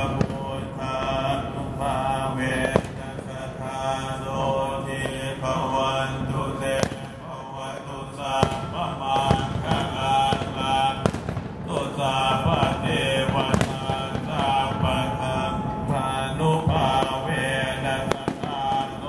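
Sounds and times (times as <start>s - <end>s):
firework bangs: 0.0s - 19.0s
group chanting: 0.0s - 19.0s.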